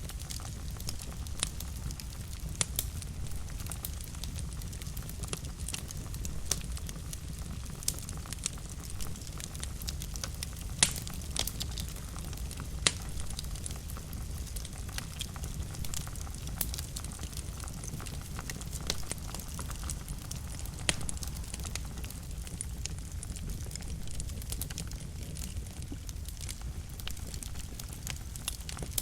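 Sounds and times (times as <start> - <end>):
fire low rumble: 0.0 - 29.0
wood fire crackling: 0.0 - 29.0.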